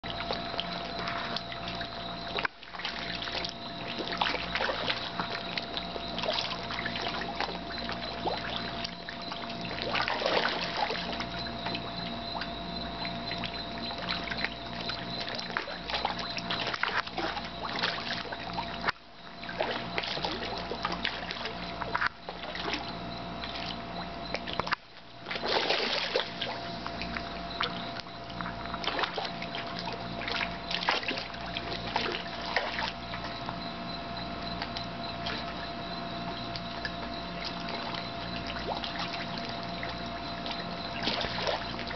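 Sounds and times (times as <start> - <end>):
fish splashing at water surface: 0.0 - 33.4, 34.4 - 41.9
steady hum: 0.0 - 41.9.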